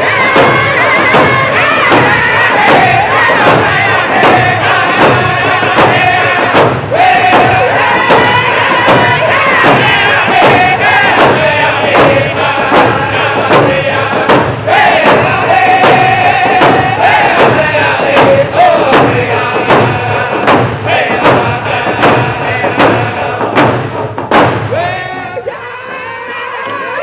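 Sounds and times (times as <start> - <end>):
men singing in unison: 0.0 - 23.8, 24.6 - 27.0
hand drums beating: 0.0 - 25.6.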